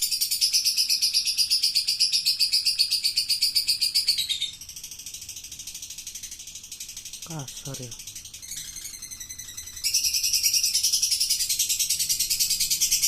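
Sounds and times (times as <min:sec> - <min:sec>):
songbird fast rattling trill: 0:00.0 - 0:13.0.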